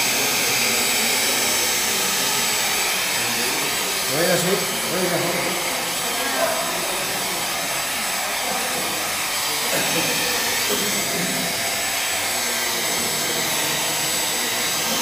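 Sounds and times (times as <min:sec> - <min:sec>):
hot-air dryer blowing: 0:00.0 - 0:15.0.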